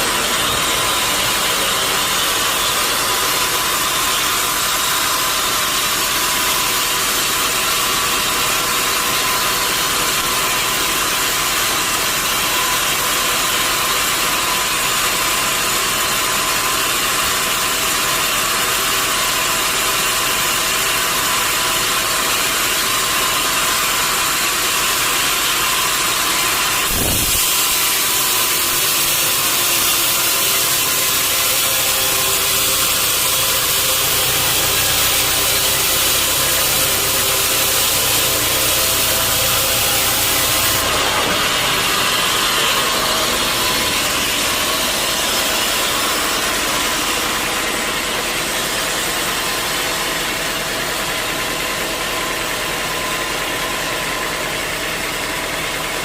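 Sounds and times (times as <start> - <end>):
saw cutting: 0.0 - 56.0
sawmill machinery humming: 0.0 - 56.0.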